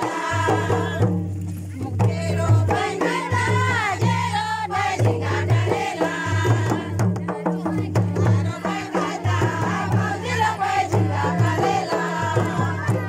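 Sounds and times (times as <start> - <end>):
barrel drums beating: 0.0 - 13.0
group of voices singing: 0.0 - 13.0.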